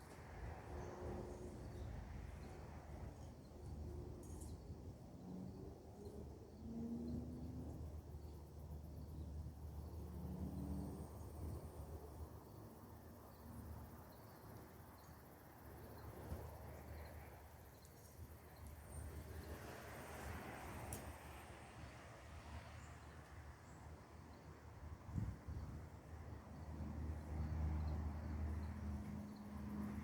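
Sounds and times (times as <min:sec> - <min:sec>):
cricket chirps: 0:00.0 - 0:30.0.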